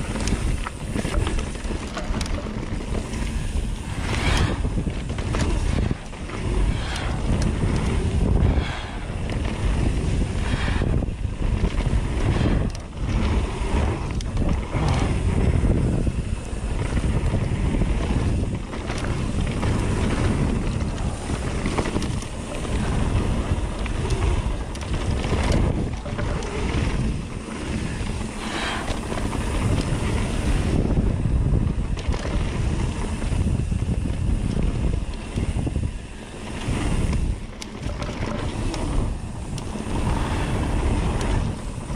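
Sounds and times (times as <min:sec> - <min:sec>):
bike knocking and rattling: 0:00.0 - 0:41.9
tyres rolling on dirt trail: 0:00.0 - 0:41.9
wind noise on microphone: 0:00.0 - 0:41.9.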